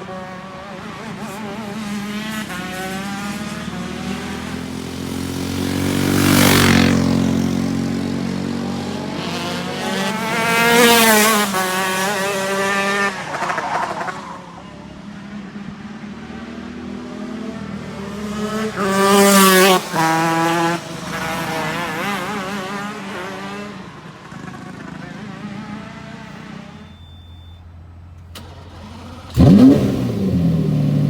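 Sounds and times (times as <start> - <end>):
racing car engines passing by: 0.0 - 31.0.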